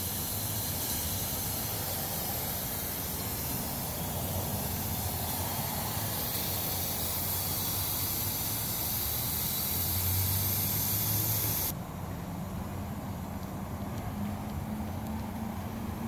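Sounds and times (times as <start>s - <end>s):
loud steady hiss: 0.0s - 13.8s
engine running: 0.0s - 16.0s.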